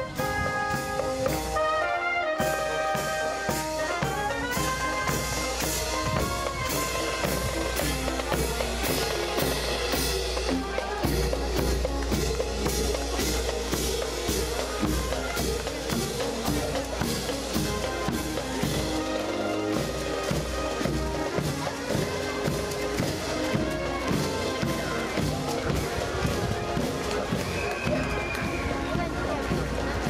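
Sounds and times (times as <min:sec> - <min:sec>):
brass playing: 0:00.0 - 0:27.5
snare and bass drums marching: 0:00.0 - 0:30.0.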